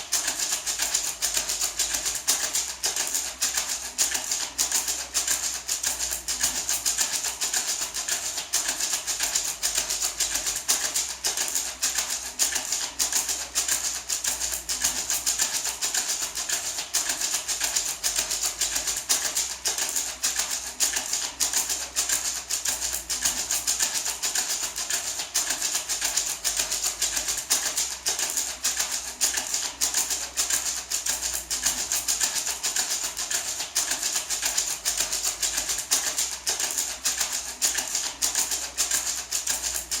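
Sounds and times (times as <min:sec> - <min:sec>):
maraca rattling: 0:00.0 - 0:40.0.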